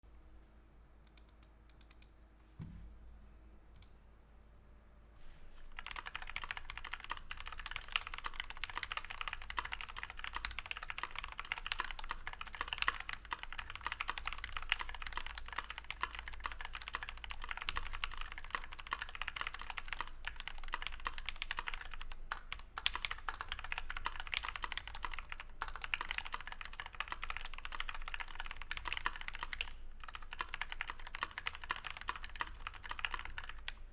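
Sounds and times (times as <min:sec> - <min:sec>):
mechanical keyboard typing: 0:01.1 - 0:02.1, 0:05.7 - 0:33.8.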